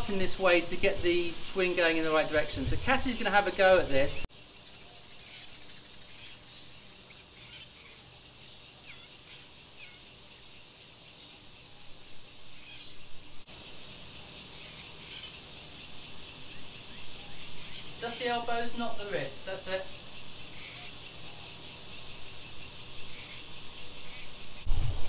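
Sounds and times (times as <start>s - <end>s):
birds chirping: 0.0s - 24.7s
steady high hiss: 0.0s - 25.0s.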